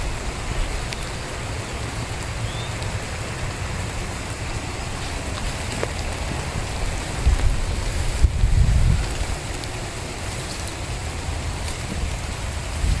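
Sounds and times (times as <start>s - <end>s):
outdoor hiss: 0.0s - 13.0s
wind rumble on microphone: 0.0s - 13.0s.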